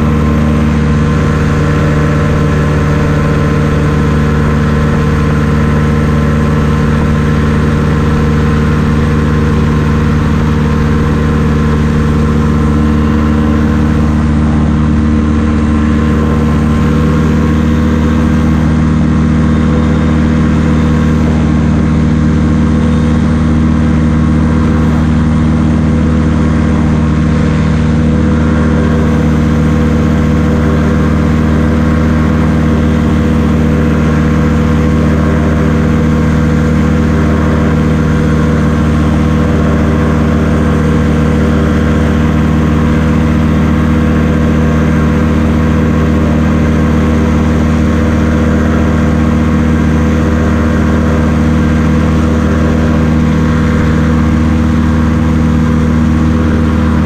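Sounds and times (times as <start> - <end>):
ultralight aircraft engine droning: 0.0 - 57.0.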